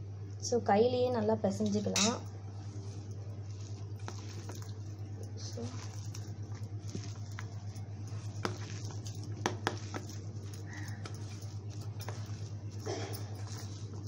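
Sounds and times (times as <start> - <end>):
steady low hum: 0.0 - 14.0
potato squishing: 1.7 - 14.0.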